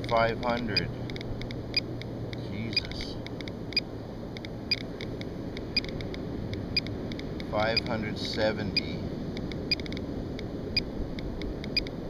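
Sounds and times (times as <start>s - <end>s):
geiger counter clicking: 0.0s - 8.4s, 9.4s - 12.0s.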